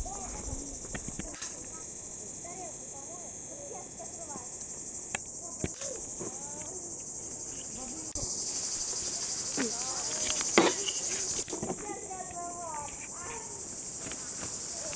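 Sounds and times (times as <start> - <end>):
faint voices: 0.0 - 14.9
insects chirring: 0.0 - 14.9.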